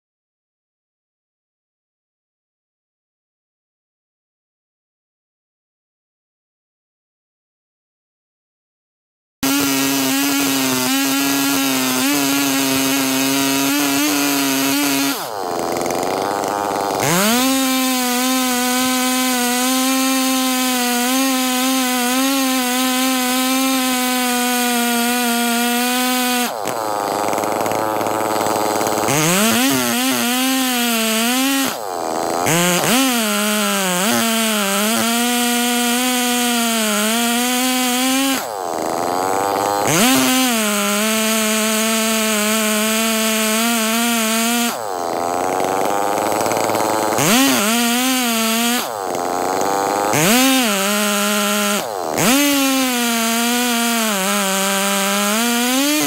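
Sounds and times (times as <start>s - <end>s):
chainsaw cutting log at full throttle: 9.4s - 56.0s.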